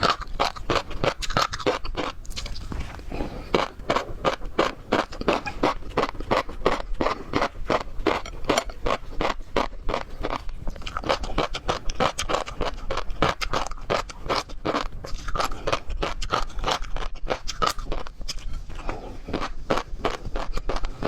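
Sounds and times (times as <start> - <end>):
chewing seafood: 0.0 - 21.0.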